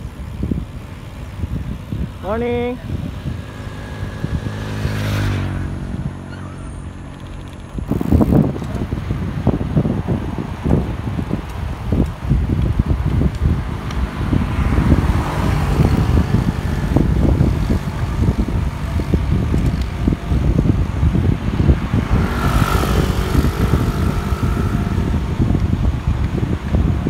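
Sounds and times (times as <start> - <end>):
motor vehicle passing: 0.0 - 27.0
wind buffeting microphone: 0.0 - 27.0.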